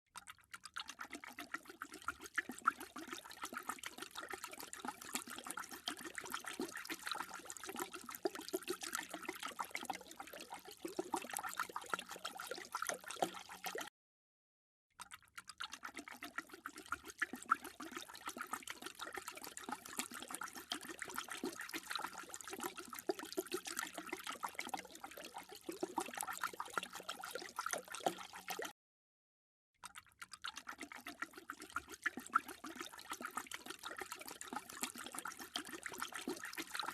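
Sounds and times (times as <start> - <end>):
dog lapping water: 0.2 - 13.9, 15.0 - 28.7, 29.8 - 36.9.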